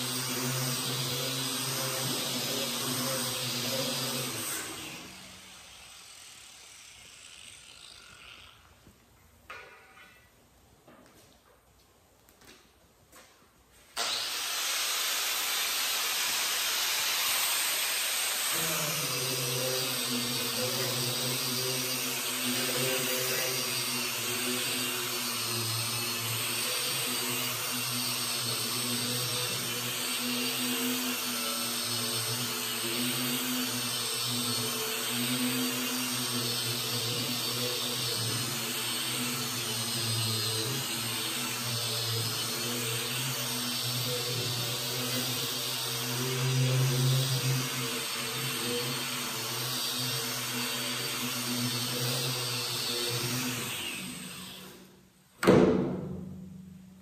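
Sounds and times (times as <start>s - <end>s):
angle grinder sanding steel: 0.0s - 8.8s, 14.0s - 54.9s.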